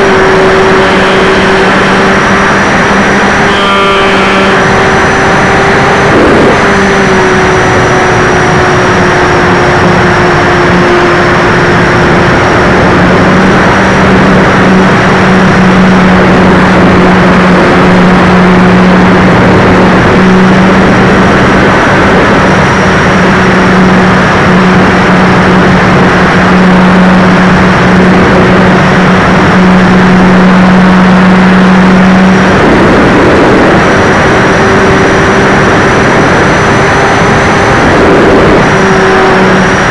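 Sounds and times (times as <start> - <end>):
model plane motor and propeller hum: 0.0 - 39.9
wind rush on microphone: 0.0 - 39.9.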